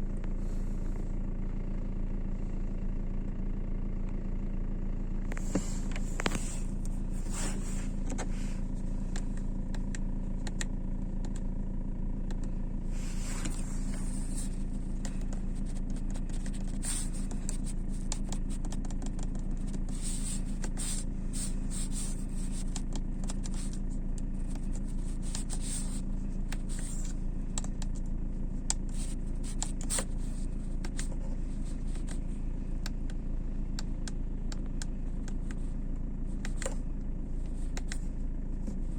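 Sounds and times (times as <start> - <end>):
air heater humming: 5.2 - 38.9.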